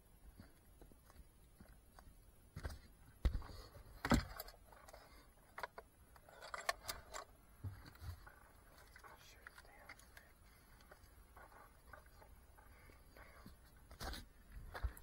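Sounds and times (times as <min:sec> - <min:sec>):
handling knocks and clicks: 0:00.4 - 0:15.0.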